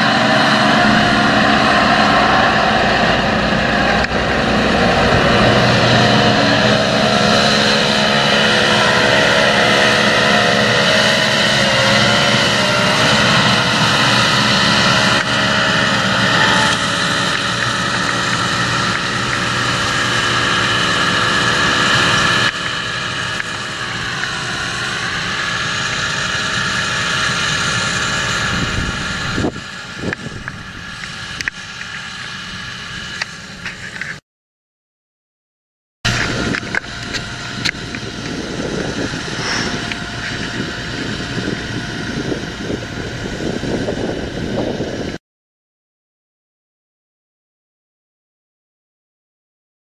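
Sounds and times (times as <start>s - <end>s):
tractor diesel engine running: 0.0s - 34.2s, 36.1s - 45.2s.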